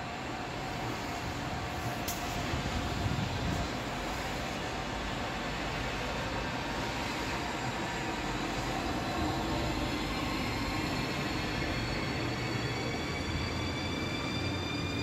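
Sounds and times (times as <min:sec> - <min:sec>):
train rail rumble: 0:00.0 - 0:13.2.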